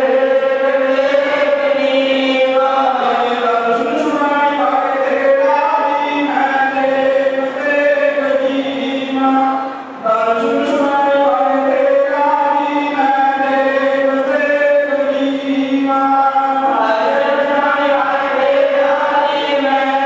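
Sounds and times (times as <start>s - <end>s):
group chanting in held notes: 0.0s - 20.0s.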